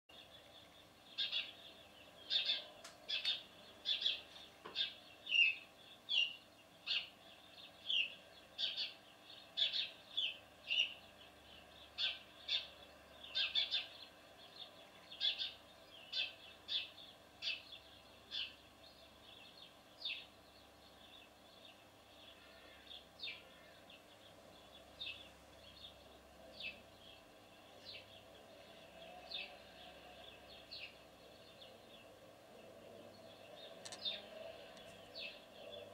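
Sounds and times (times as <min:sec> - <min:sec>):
sparrow chirping: 0:00.1 - 0:35.9.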